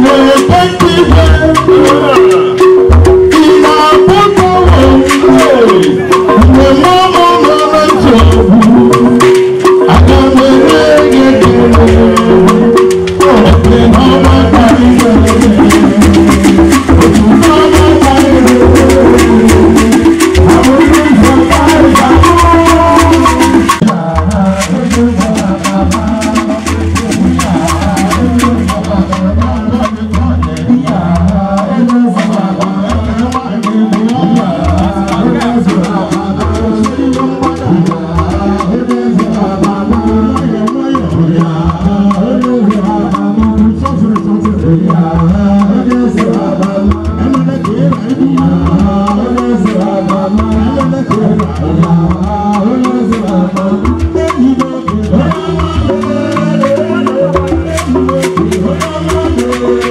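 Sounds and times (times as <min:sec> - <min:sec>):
percussion beat with drums: 0:00.0 - 0:59.9
person singing: 0:00.0 - 0:59.9.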